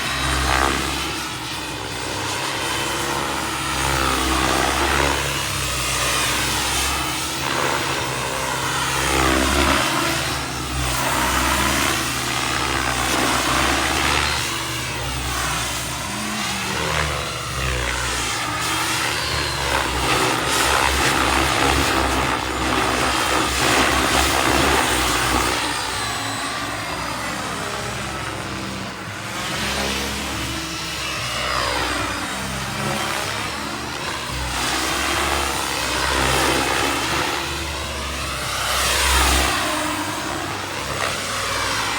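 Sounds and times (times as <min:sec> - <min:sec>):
model helicopter turbine and rotor: 0:00.0 - 0:41.9.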